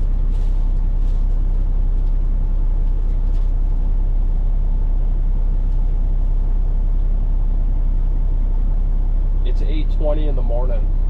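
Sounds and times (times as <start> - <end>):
diesel engine rumble: 0.0 - 11.0.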